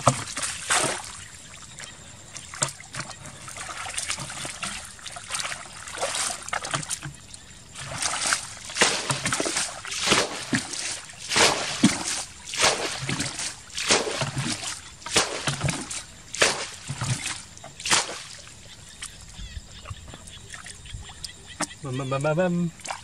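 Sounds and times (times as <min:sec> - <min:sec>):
splashing in muddy water: 0:00.0 - 0:23.0
water trickling: 0:00.0 - 0:23.0.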